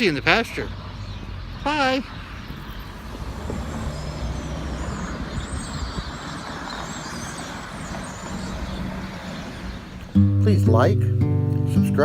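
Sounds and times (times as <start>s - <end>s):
road traffic rushing by: 0.0s - 12.0s.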